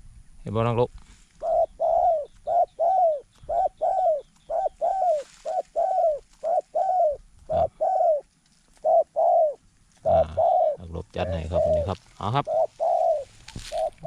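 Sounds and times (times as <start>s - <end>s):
dove cooing: 1.4s - 14.0s.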